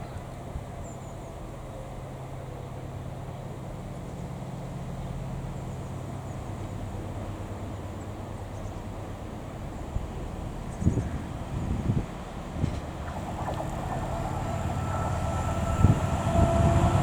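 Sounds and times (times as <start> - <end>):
train diesel engine humming: 0.0 - 17.0.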